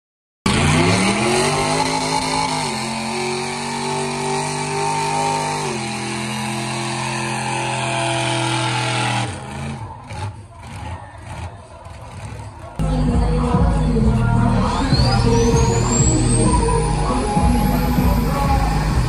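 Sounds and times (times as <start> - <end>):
truck engine revving at full throttle: 0.4 - 19.0.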